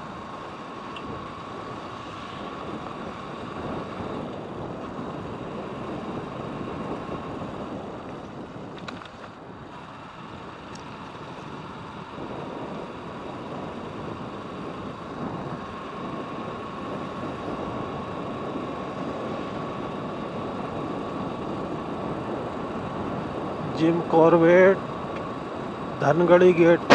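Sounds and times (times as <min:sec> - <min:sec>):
wind rushing over microphone: 0:00.0 - 0:23.8, 0:26.6 - 0:26.9
motorcycle road noise: 0:00.0 - 0:26.9.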